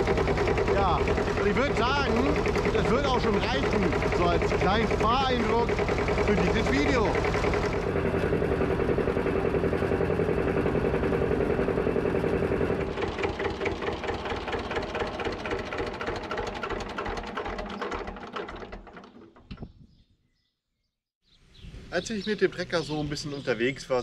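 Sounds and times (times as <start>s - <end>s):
diesel tractor engine running: 0.0s - 19.6s.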